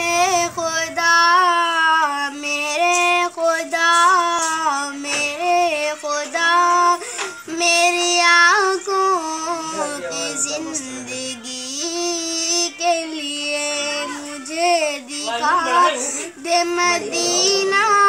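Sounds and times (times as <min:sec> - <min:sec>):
boy singing devotional song: 0:00.0 - 0:18.0.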